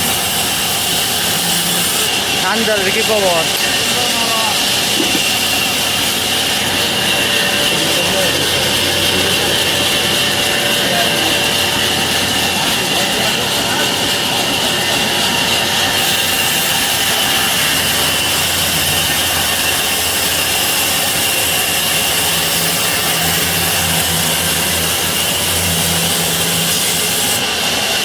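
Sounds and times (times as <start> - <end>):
sawmill saw whining: 0.0 - 28.0
deeper hum: 1.2 - 27.4.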